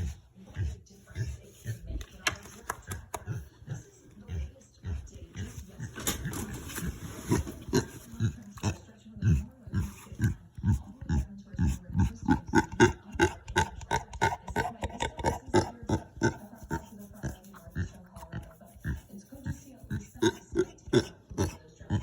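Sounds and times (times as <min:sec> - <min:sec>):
pig grunting: 0:02.9 - 0:22.0.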